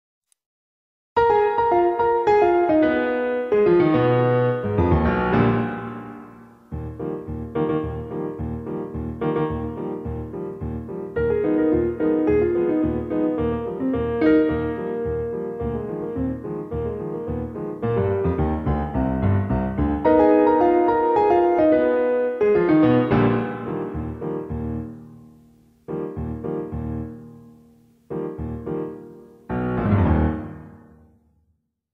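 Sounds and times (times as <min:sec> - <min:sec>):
piano music with pulsing bass: 0:01.2 - 0:31.2.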